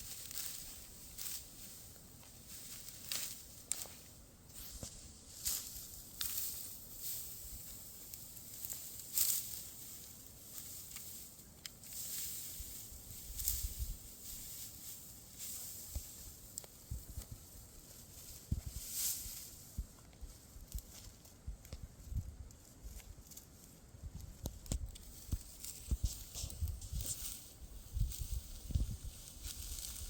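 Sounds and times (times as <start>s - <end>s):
dry rustling swishes: 0.0s - 19.8s, 25.0s - 30.0s.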